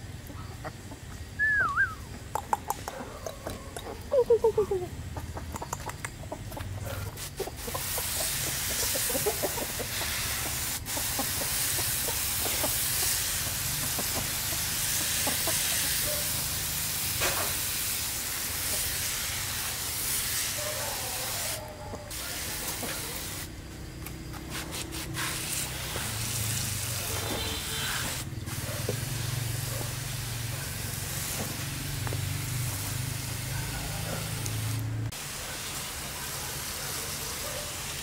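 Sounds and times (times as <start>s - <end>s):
sprayer hissing: 6.9s - 38.0s.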